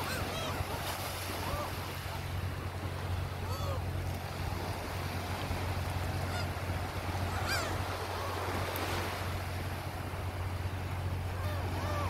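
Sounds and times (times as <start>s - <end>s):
gulls calling: 0.0s - 12.0s
small waves washing on sand: 0.0s - 12.0s.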